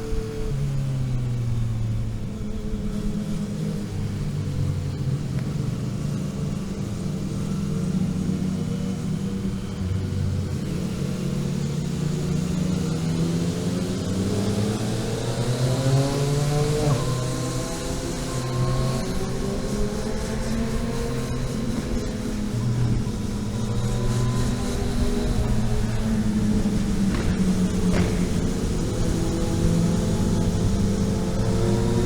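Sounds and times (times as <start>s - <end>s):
vehicle engine driving: 0.0s - 32.0s.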